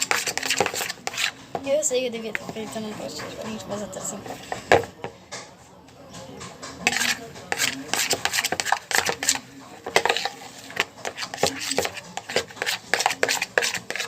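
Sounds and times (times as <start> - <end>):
utensil stirring slime in bowl: 0.0 - 5.1, 6.4 - 14.0.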